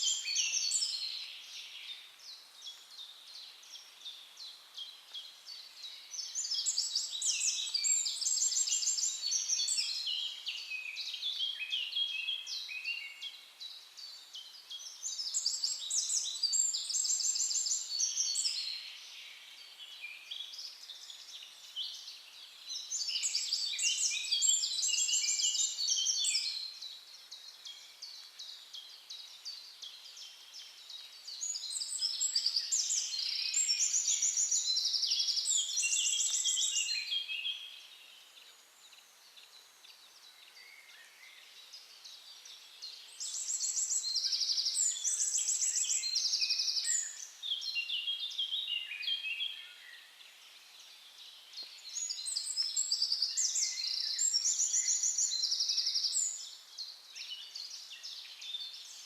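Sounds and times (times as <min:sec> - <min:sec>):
quiet bird chirps: 0:00.0 - 0:59.0
songbird singing trills: 0:00.0 - 0:59.0.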